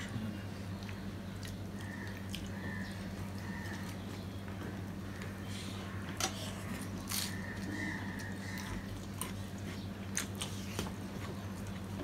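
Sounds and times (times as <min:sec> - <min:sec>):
people chewing food: 0:00.0 - 0:12.0
steady low hum: 0:00.0 - 0:12.0.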